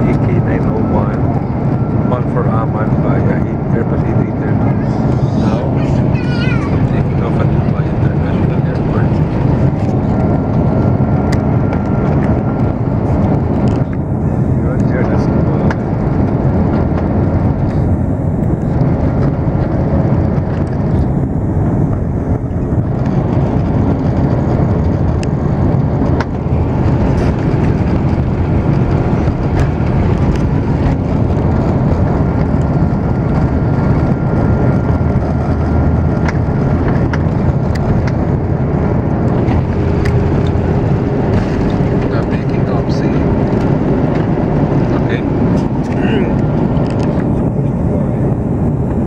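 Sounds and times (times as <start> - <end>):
aircraft cabin engine rumble: 0.0 - 49.0.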